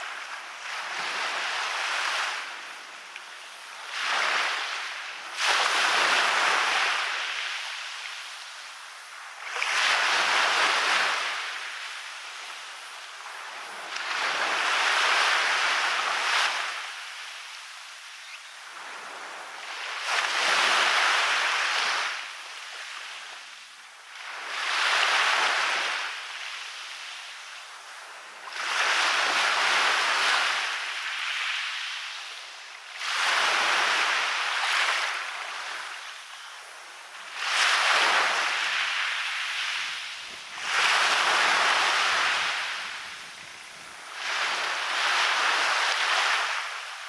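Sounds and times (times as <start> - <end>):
waves breaking on a beach: 0.0 - 47.0.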